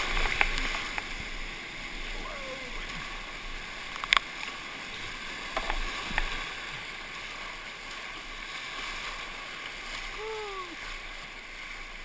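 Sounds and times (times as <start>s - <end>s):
whitewater rapids rushing: 0.0s - 12.0s.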